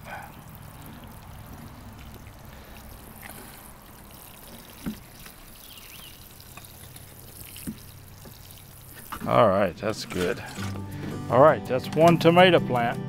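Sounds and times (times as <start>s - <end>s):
water trickling onto soil: 0.0s - 10.6s.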